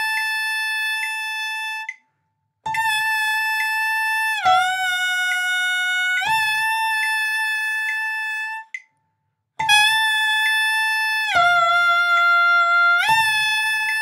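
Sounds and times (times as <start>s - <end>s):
saxophone mouthpiece tone: 0.0s - 2.0s, 2.7s - 8.8s, 9.6s - 14.0s.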